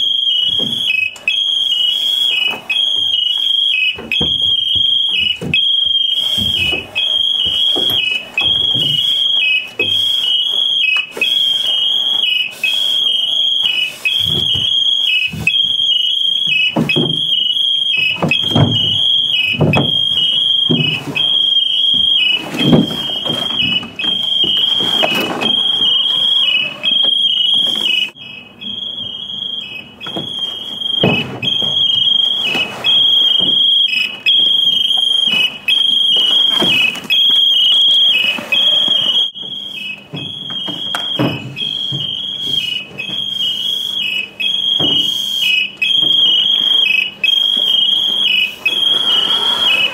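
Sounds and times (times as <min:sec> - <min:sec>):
high-pitched electronic alarm: 0:00.0 - 0:49.9.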